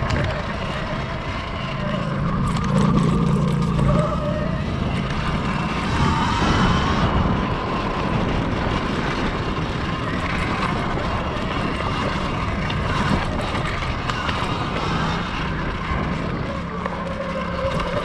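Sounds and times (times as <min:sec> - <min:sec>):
wind noise on microphone: 0:00.0 - 0:18.0.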